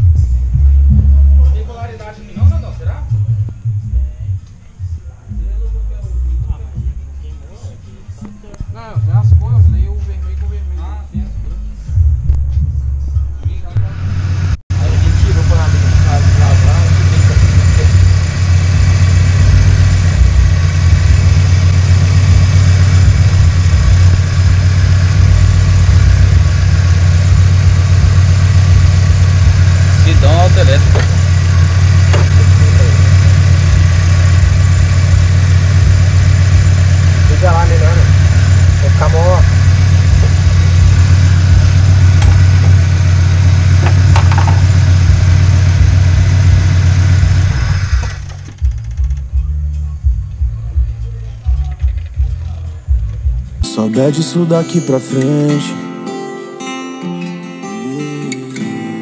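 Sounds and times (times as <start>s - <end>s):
car engine idling: 0.0s - 54.3s.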